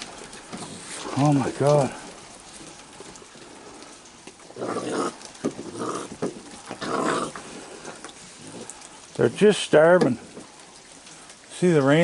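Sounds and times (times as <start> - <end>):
heavy rain hiss: 0.0 - 12.0
raccoons growling: 0.4 - 10.8.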